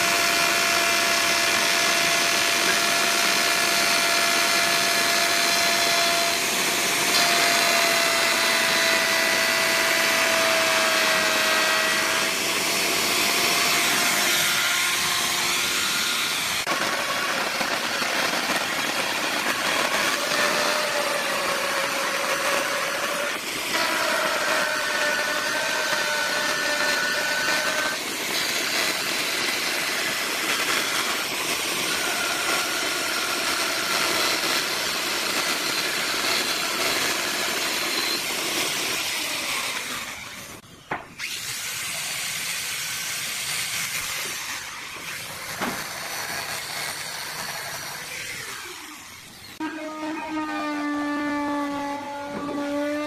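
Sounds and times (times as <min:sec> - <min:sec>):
power saw cutting hardwood: 0:00.0 - 0:53.0.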